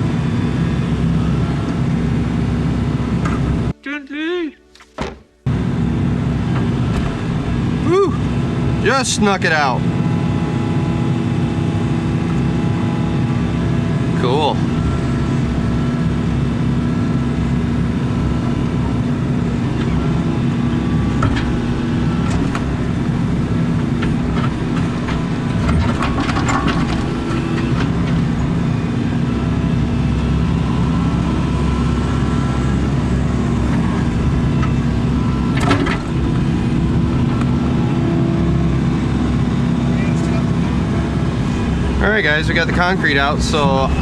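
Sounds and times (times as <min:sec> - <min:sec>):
excavator diesel engine running: 0:00.0 - 0:03.8, 0:05.4 - 0:44.0.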